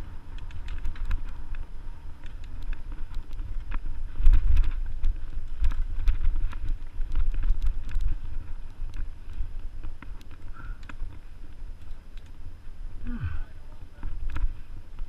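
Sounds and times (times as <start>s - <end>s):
bike clicks and rattles: 0.0s - 13.0s, 13.6s - 15.0s
wind rumble on microphone: 0.0s - 15.0s.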